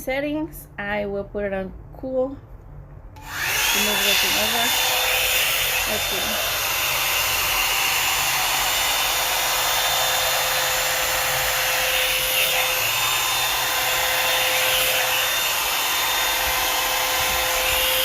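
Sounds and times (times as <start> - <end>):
blow dryer air rushing: 3.2 - 18.0.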